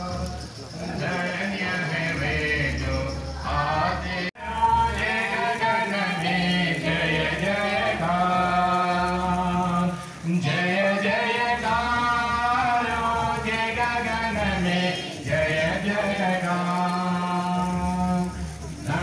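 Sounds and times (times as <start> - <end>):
crowd singing a hymn: 0.0 - 19.0.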